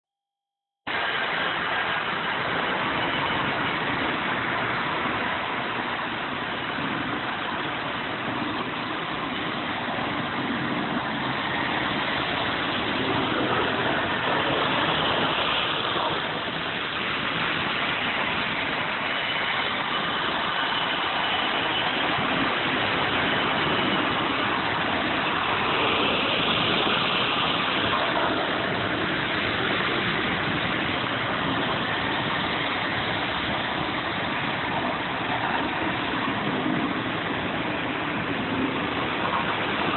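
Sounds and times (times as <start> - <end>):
model train whirring on track: 0.9 - 39.9.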